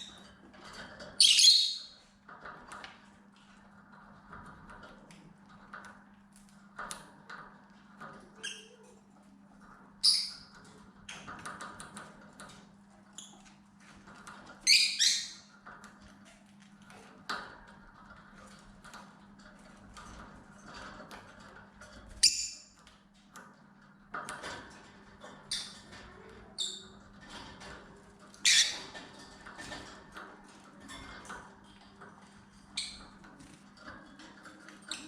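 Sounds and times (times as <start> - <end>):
faint clicking and rustling: 0.0 - 35.0.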